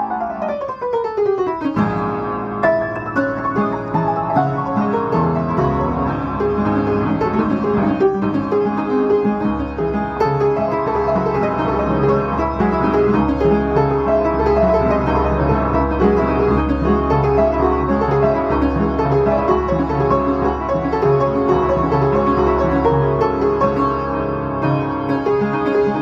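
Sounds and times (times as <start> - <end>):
solo piano piece: 0.0 - 26.0.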